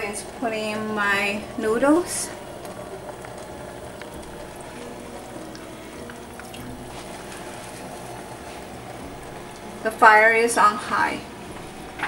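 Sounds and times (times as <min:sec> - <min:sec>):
sauce bubbling in a pan: 0:01.0 - 0:12.0.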